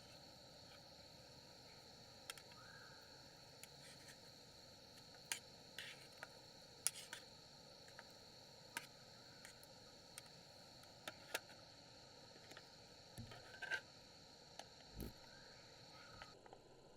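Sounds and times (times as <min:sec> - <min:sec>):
crickets trilling: 0:00.0 - 0:16.9.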